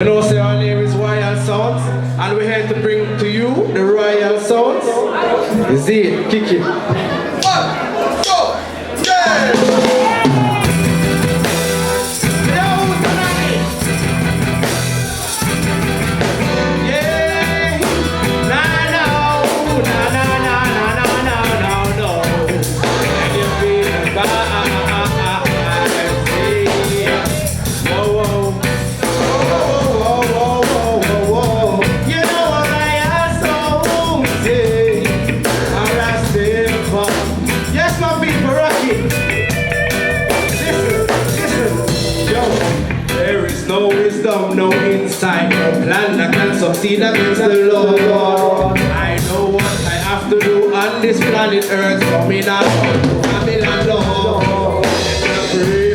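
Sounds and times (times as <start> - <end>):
reggae band playing: 0.0 - 55.9.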